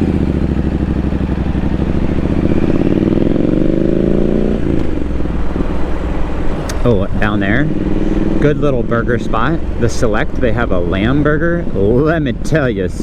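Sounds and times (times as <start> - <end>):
motorcycle engine accelerating: 0.0 - 12.7.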